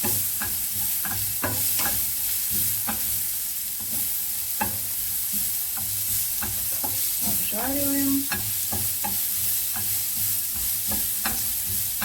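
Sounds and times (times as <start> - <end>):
carrot sizzling in a frying pan: 0.0 - 12.0.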